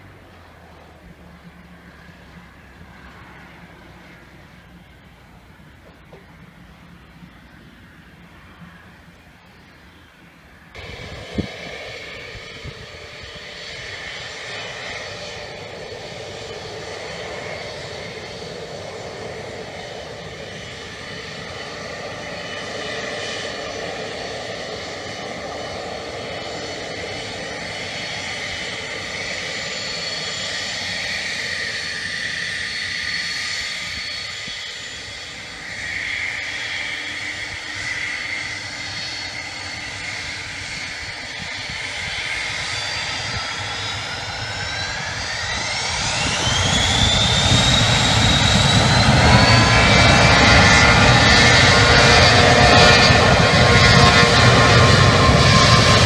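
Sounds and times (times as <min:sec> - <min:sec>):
jet turbofan engines whining: 0:00.0 - 0:56.0.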